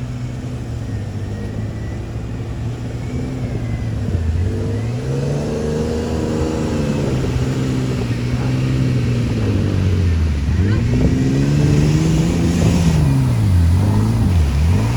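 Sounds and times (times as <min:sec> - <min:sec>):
engine revving under load: 0:00.0 - 0:14.9.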